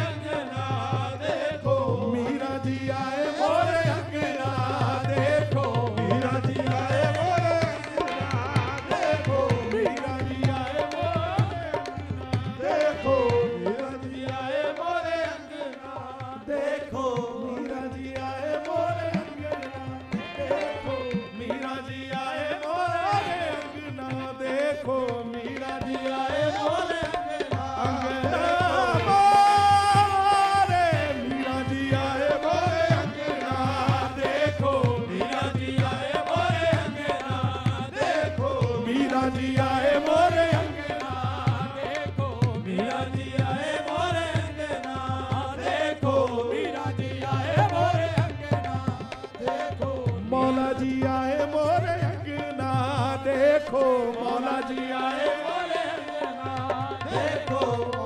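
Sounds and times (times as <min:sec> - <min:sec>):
harmonium: 0:00.0 - 0:58.0
people singing: 0:00.0 - 0:58.0
tabla: 0:00.0 - 0:58.0.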